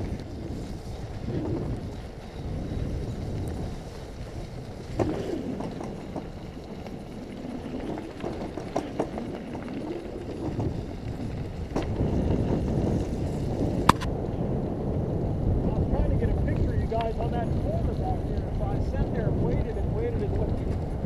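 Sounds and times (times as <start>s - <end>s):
bicycle tyres rolling on dirt: 0.0s - 21.0s
bike clicks and rattles: 0.0s - 21.0s
wind buffeting microphone: 0.0s - 21.0s.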